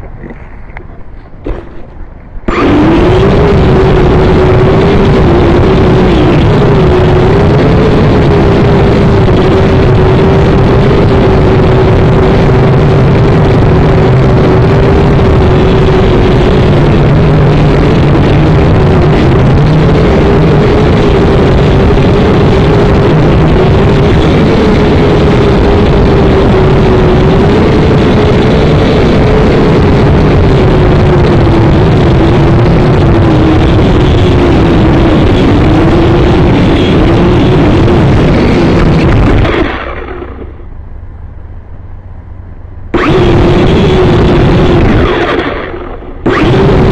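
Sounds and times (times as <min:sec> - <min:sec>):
drone propellers buzzing: 0:00.0 - 0:46.9.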